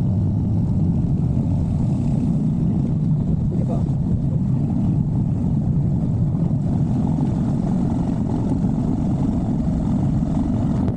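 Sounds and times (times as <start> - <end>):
wind noise: 0.0 - 10.9.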